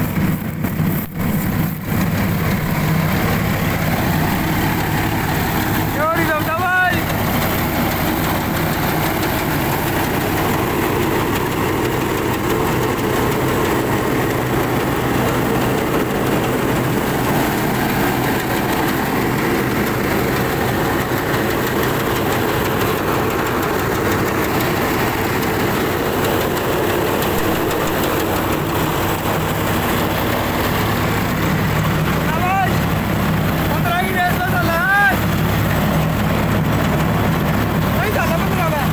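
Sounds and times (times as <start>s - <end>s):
diesel tractor engine running: 0.0s - 38.9s
straw reaper working: 0.0s - 38.9s.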